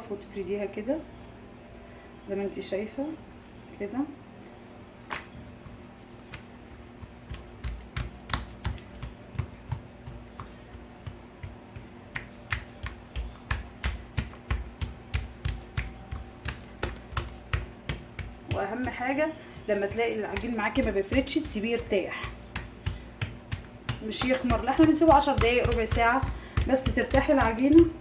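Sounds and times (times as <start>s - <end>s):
hands slapping dough: 5.1s - 28.0s.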